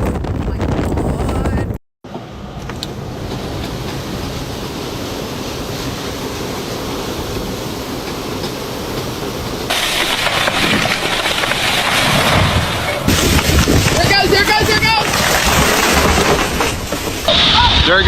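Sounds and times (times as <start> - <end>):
wind buffeting microphone: 0.0 - 1.8, 2.7 - 18.0.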